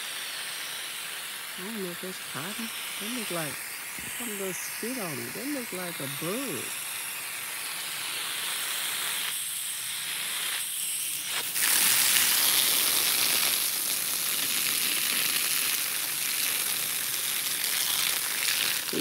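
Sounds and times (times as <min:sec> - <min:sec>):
garden hose spray hissing: 0:00.0 - 0:19.0.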